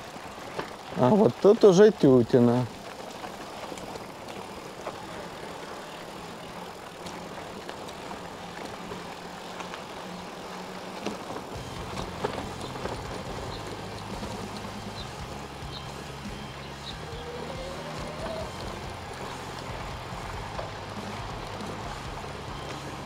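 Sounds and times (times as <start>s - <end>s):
bicycle tyre noise: 0.0s - 23.0s
bike clicks and rattles: 0.0s - 23.0s.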